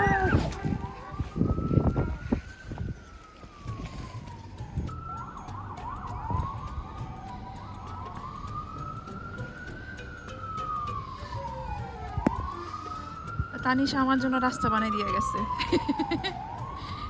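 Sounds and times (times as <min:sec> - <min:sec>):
emergency vehicle siren wailing: 0:00.0 - 0:17.0.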